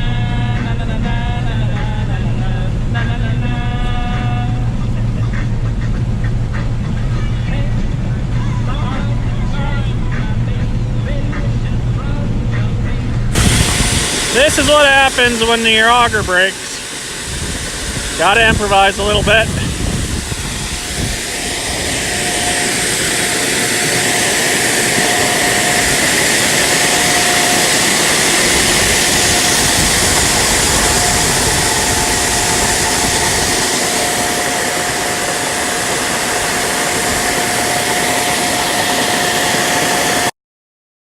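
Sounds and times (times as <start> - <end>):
farm machinery running: 0.0 - 40.3.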